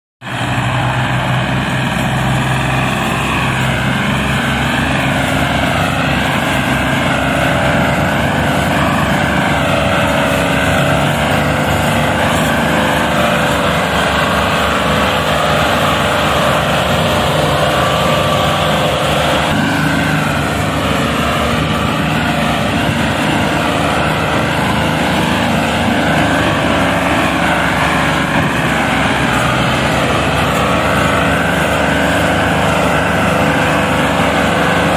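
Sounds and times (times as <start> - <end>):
tractor engine working hard: 0.2 - 34.9.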